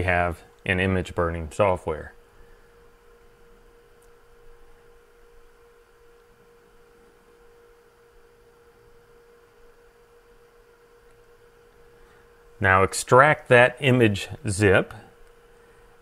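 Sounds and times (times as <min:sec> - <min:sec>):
faint pure hum: 0:00.0 - 0:16.0
low background hiss: 0:00.0 - 0:16.0.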